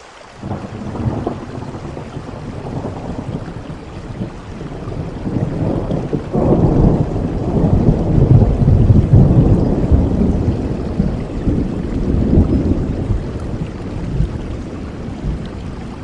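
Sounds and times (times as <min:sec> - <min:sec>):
steady rain: 0:00.0 - 0:16.0
deep roll of thunder: 0:00.4 - 0:16.0.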